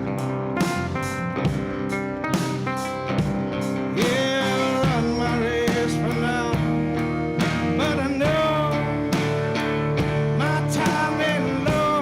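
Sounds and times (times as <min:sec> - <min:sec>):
slide guitar: 0:00.0 - 0:12.0
steady drum beat: 0:00.0 - 0:12.0.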